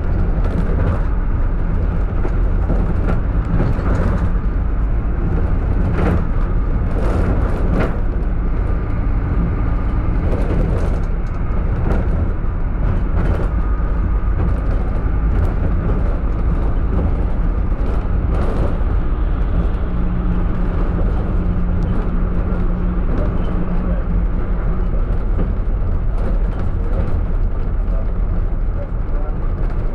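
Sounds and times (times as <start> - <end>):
minibus engine and road noise: 0.0 - 29.9.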